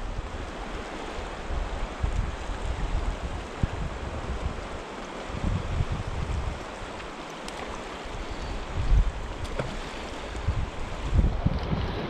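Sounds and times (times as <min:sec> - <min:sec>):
wind buffeting microphone: 0:00.0 - 0:06.9, 0:07.8 - 0:12.0
river rushing: 0:00.0 - 0:12.0.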